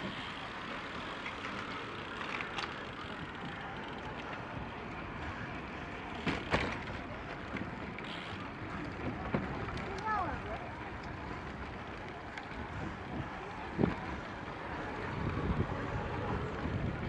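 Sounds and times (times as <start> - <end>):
bicycle tyre noise: 0.0 - 17.0.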